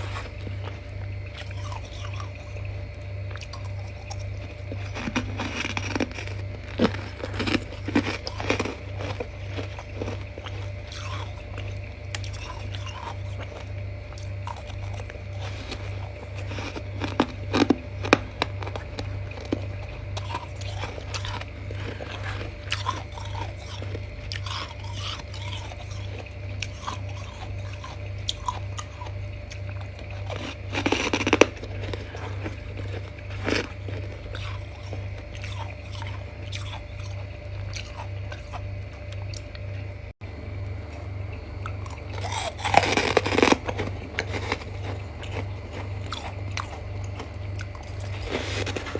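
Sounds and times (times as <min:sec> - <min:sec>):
chewing crunchy frost: 0:00.0 - 0:48.9
low pulsing hum: 0:00.0 - 0:48.9.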